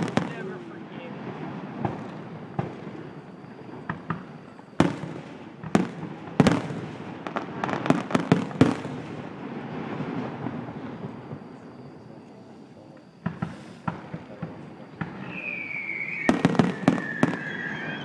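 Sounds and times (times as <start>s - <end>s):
fireworks bangs: 0.0s - 18.0s
fireworks crackles: 0.0s - 18.0s.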